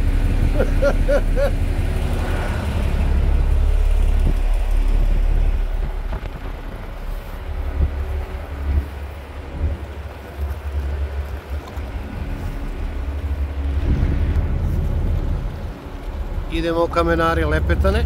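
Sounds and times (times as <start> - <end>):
ferry engines droning: 0.0 - 18.0.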